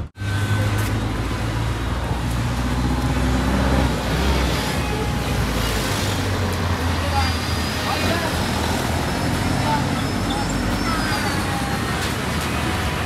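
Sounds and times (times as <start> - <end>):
low road rumble: 0.0 - 13.0
vehicle engines passing: 0.0 - 13.0.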